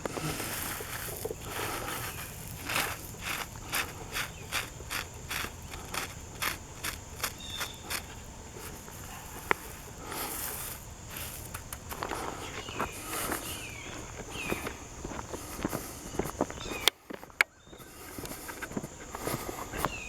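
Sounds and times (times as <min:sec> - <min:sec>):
footsteps on loose gravel: 0:00.0 - 0:20.0.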